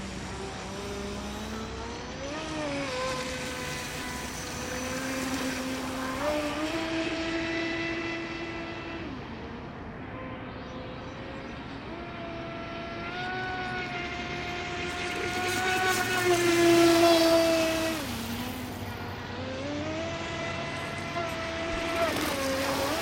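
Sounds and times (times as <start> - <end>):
electric boat motor whine: 0.0 - 23.0.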